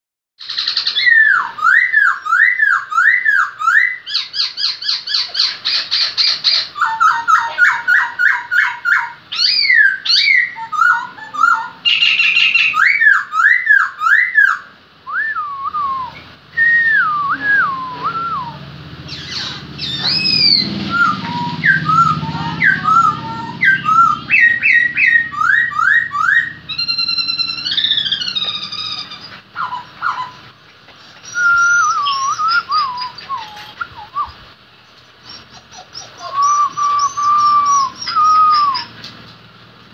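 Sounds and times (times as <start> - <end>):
laughingthrush singing whistled song: 0.4 - 39.1.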